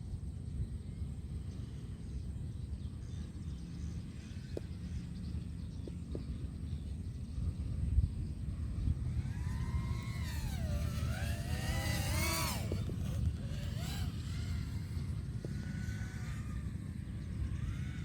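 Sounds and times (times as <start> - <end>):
low wind rumble: 0.0 - 18.0
quadcopter motors whining: 0.0 - 18.0.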